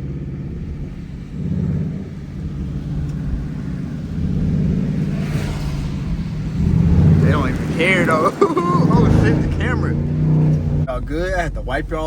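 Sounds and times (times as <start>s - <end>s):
car engine rumbling while driving: 0.0s - 12.0s.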